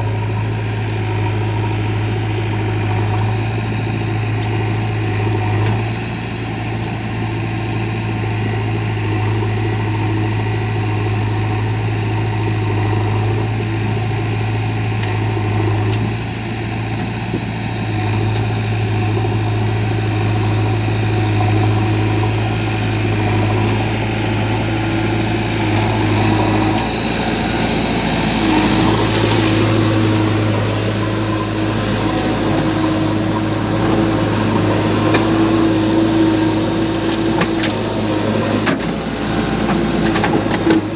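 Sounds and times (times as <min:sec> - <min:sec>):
heavy diesel engine humming: 0:00.0 - 0:40.9.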